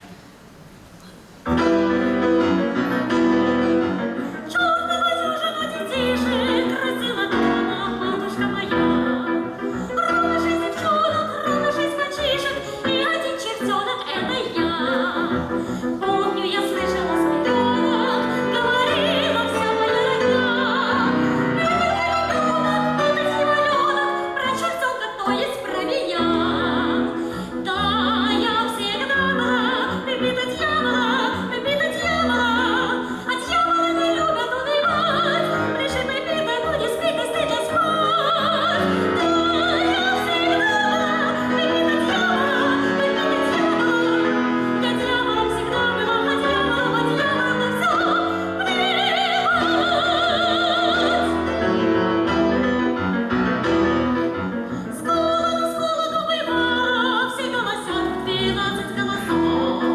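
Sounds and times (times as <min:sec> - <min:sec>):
woman singing operatically: 0:04.3 - 0:51.8, 0:54.9 - 0:59.9.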